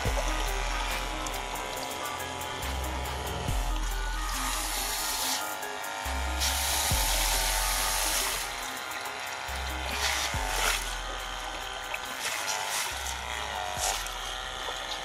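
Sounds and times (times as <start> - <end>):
background music: 0.0 - 15.0
water pump motor whirring: 0.0 - 15.0.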